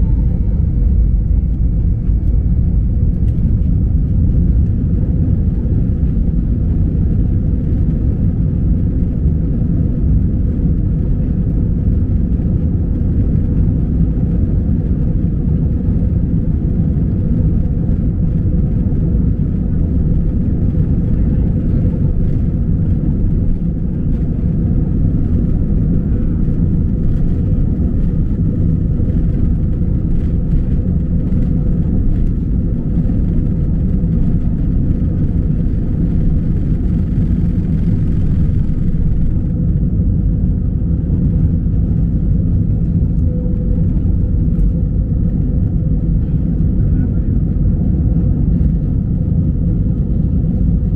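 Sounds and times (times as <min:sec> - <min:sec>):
faint constant hum: 0:00.0 - 0:50.9
jet engines low rumble: 0:00.0 - 0:50.9.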